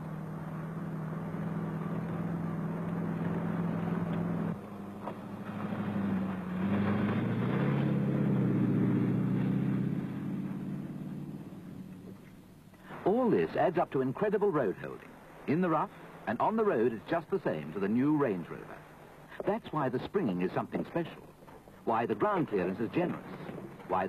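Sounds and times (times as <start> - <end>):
car engine driving: 0.0 - 24.0.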